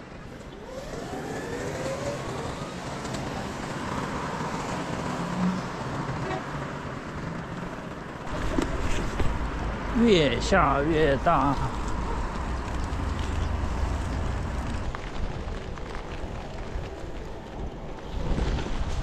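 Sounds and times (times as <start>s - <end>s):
cars passing on wet street: 0.0s - 19.0s.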